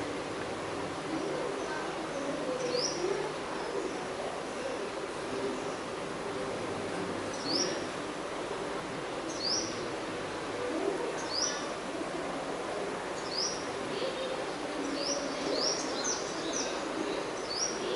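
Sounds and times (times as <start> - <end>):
background hiss: 0.0 - 17.9.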